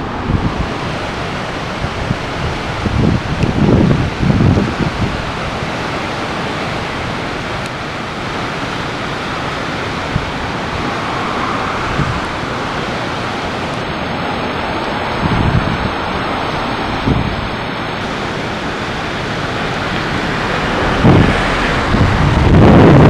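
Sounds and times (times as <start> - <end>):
wind buffeting microphone: 0.0 - 6.1, 7.2 - 23.0
floodwater rushing: 0.0 - 23.0.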